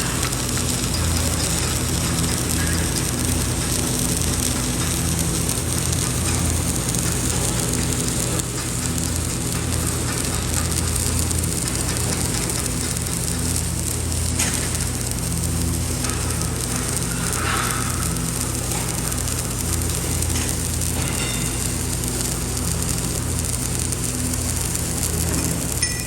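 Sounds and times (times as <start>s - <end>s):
low wavering hum: 0.0s - 26.0s
welding arc crackling sizzle: 0.0s - 26.0s.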